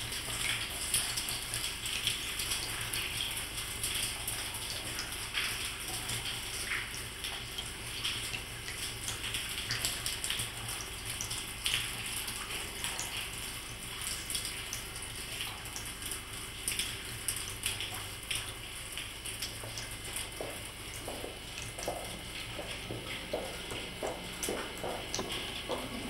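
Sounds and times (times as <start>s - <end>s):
irregular water drips: 0.0s - 26.0s
water trickling into puddles: 0.0s - 26.0s.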